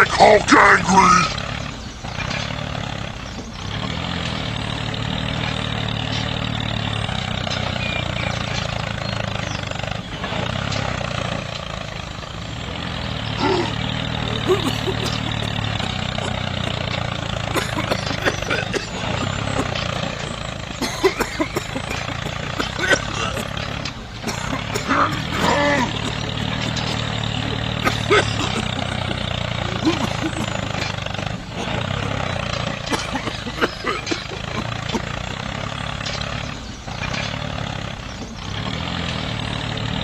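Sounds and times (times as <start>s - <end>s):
small tractor engine humming: 0.0s - 40.0s.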